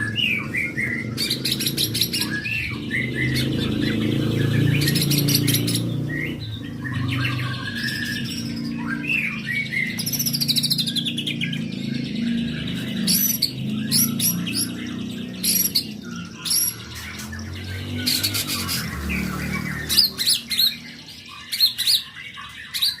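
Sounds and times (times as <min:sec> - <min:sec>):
songbird whistles trills and chirps: 0:00.0 - 0:23.0.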